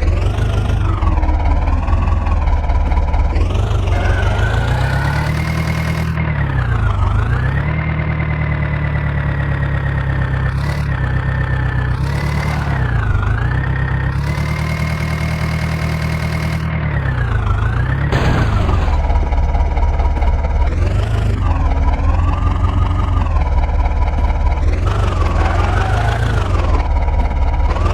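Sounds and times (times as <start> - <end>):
diesel engine under load: 0.0 - 27.9.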